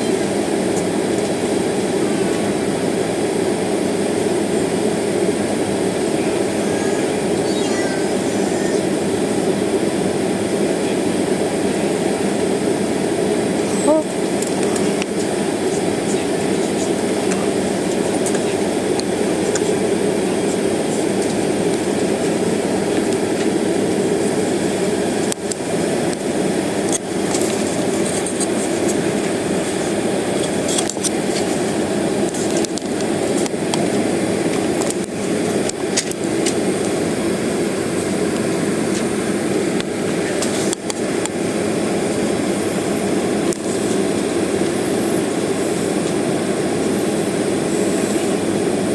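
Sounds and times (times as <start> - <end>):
jet engines idling: 0.0 - 48.9.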